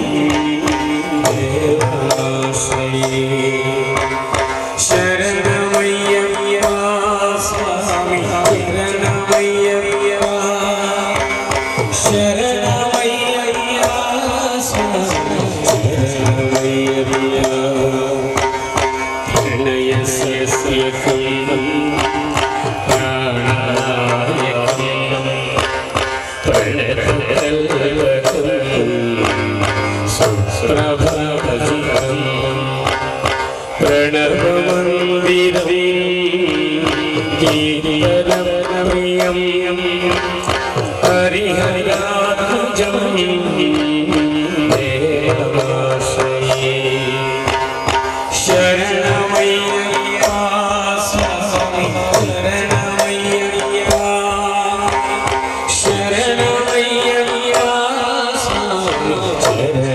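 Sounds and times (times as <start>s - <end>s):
devotional music with hand drum: 0.0s - 59.9s.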